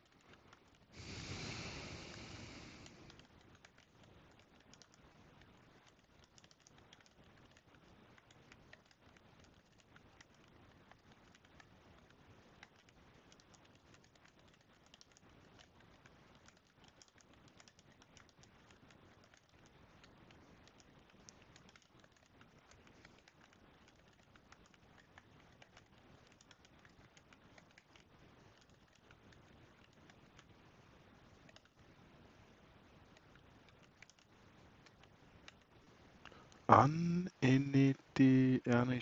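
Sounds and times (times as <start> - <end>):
keyboard typing: 0.0 - 0.9, 2.5 - 30.6, 31.3 - 32.0, 33.1 - 39.0.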